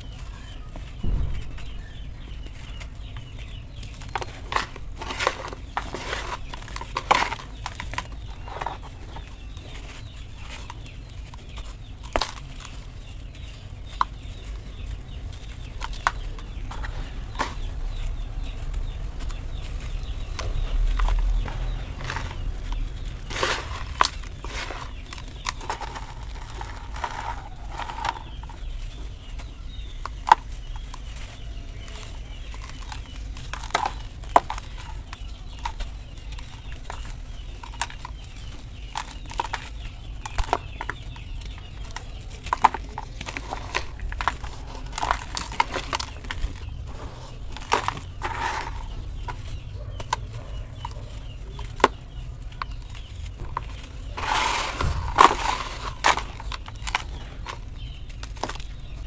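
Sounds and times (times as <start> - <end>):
dry dirt crunching in hands: 0.0 - 59.0.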